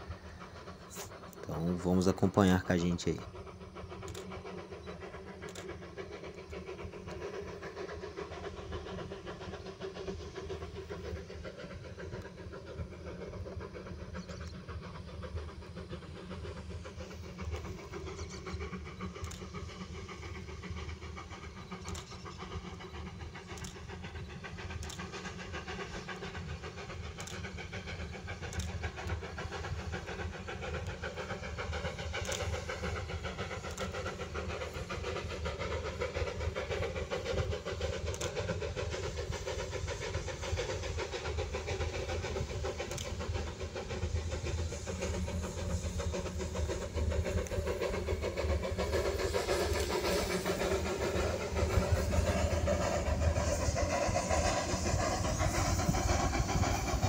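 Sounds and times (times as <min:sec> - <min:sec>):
distant steam locomotive: 0:00.0 - 0:57.0.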